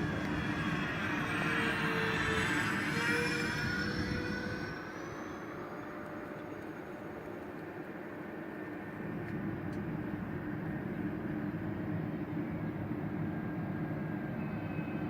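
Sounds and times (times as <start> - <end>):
model plane ducted fans whine: 0.0 - 15.0.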